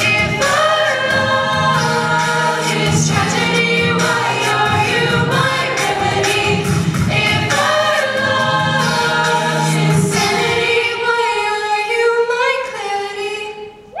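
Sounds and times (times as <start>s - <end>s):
a cappella ensemble singing: 0.0s - 13.9s.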